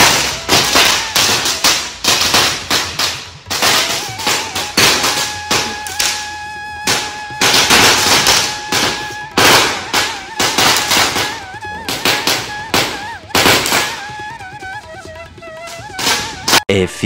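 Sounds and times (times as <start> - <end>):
firecrackers banging and crackling: 0.0 - 16.7.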